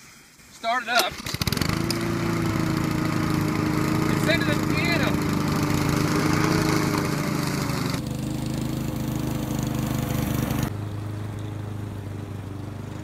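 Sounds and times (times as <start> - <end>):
lawn mower engine running: 0.9 - 13.0.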